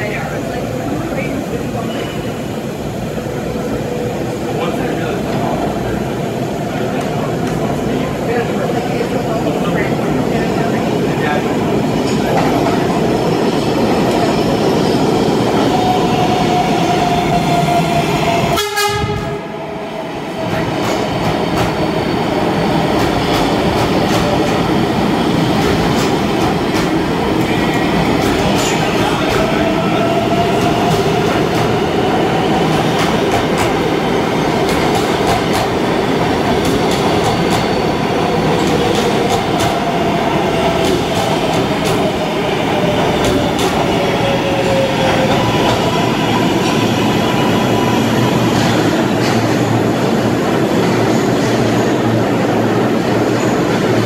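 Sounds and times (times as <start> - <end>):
subway train wheels rumbling: 0.0 - 54.0.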